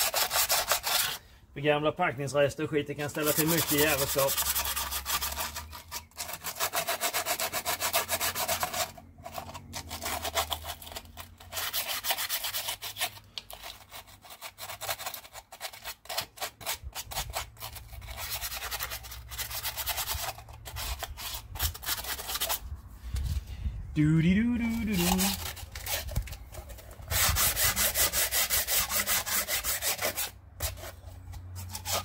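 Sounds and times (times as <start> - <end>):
sandpaper rubbing on metal: 0.0 - 1.2, 3.0 - 22.7, 24.4 - 32.0.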